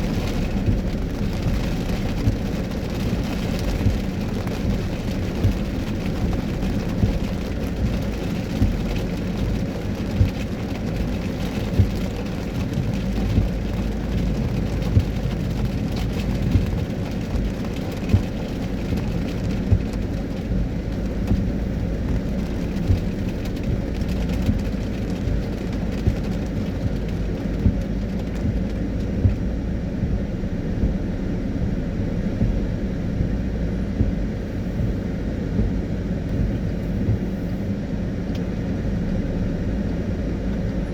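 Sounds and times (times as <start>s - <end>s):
road and engine rumble: 0.0s - 40.9s.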